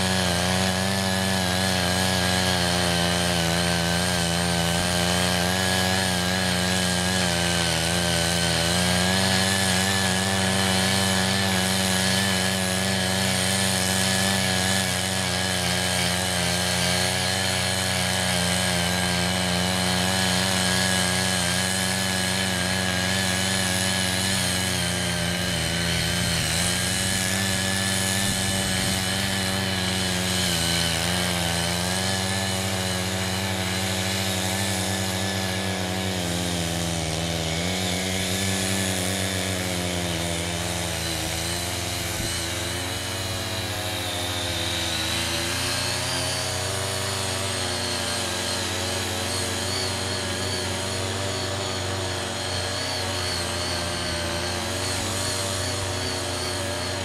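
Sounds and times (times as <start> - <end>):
cultivator blades tilling soil: 0.0 - 57.0
small petrol engines running: 0.0 - 57.0.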